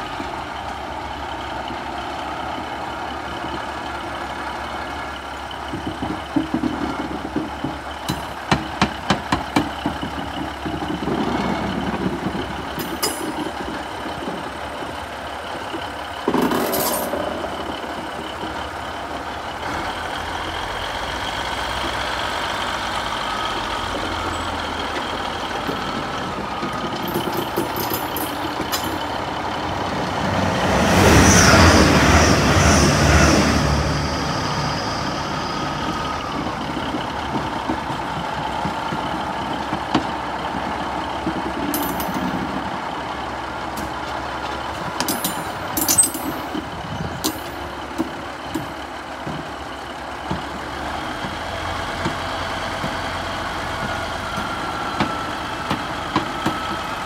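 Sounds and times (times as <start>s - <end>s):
train wheels clicking over rail joints: 0.0s - 33.8s, 35.0s - 57.0s
diesel train engine rumbling: 0.0s - 57.0s.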